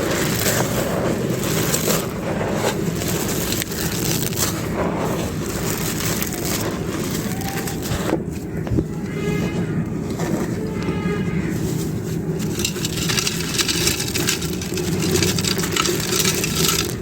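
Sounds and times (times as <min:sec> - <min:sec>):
clay pot pieces crunching: 0:00.0 - 0:17.0.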